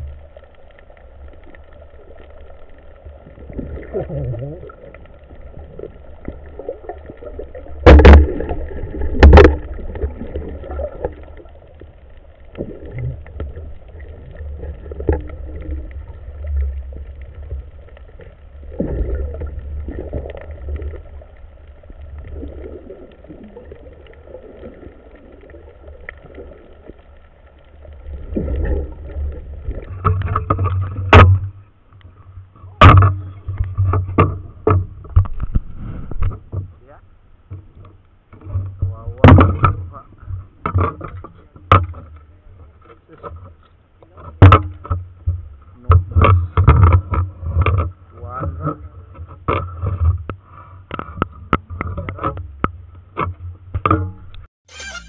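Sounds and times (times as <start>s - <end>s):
muffled water sloshing underwater: 0.0s - 54.8s.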